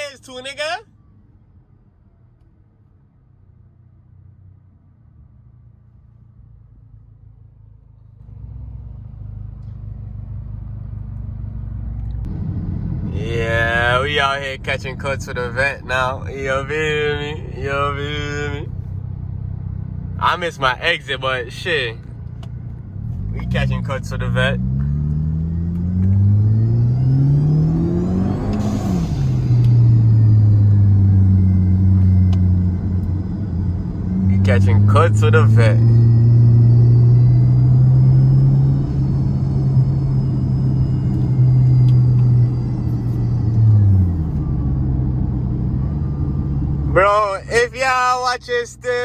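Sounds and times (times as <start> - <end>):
car engine drone: 0.0 - 49.0
road rumble: 0.0 - 49.0.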